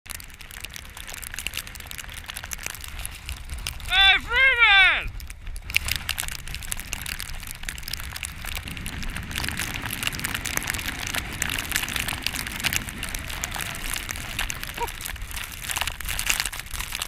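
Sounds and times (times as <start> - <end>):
snow pelting the camera: 0.1 - 17.0
wind rumbling on microphone: 0.1 - 17.0.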